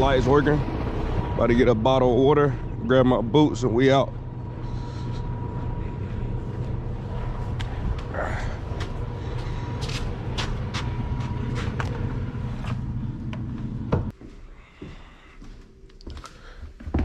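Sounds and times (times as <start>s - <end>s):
diesel engine idling: 0.0s - 14.1s.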